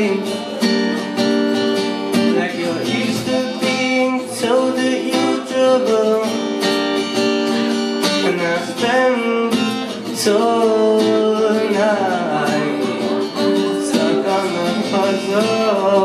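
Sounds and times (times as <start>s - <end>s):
acoustic guitar strumming: 0.0s - 16.0s
man singing: 0.0s - 16.0s.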